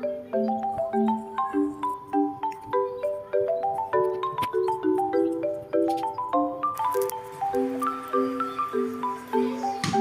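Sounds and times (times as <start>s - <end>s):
bouncy background music: 0.0s - 10.0s.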